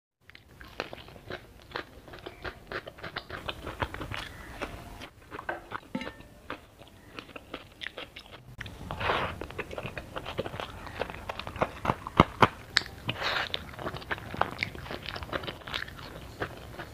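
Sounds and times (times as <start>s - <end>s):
person chewing food: 0.2s - 16.9s.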